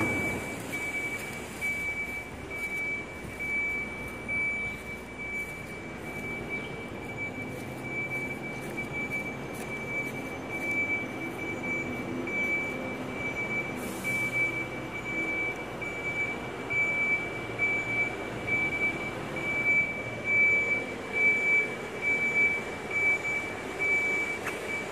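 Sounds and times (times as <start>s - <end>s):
diesel truck engine rumble: 0.0s - 24.9s
reversing alarm beeping: 0.0s - 24.9s.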